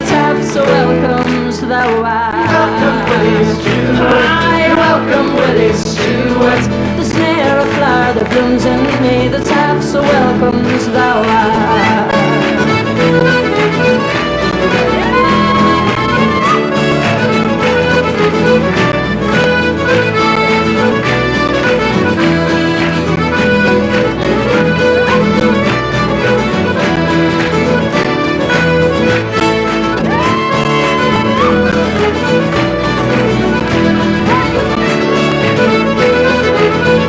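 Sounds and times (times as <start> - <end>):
accordion with band playing: 0.0 - 37.0.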